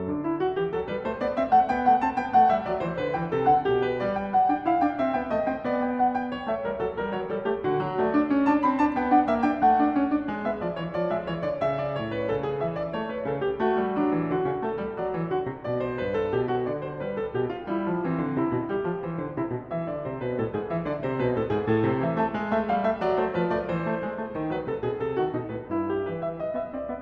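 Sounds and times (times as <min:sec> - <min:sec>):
piano music with quick notes: 0:00.0 - 0:27.0.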